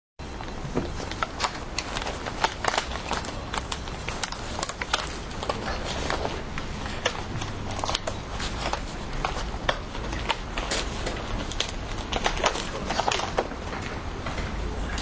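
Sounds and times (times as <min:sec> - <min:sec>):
low steady hum: 0:00.2 - 0:15.0
papers rustling and tapping: 0:00.4 - 0:15.0.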